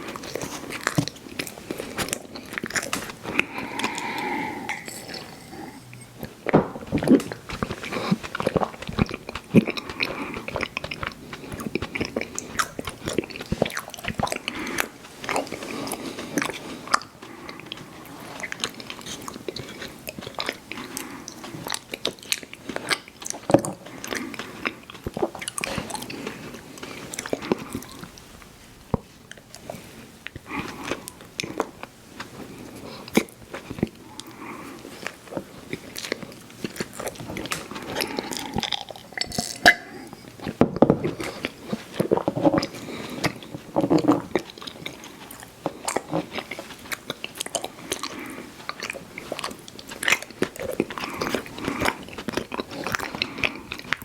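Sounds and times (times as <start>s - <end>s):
wet chewing and lip smacking: 0.0s - 28.5s, 29.3s - 54.0s.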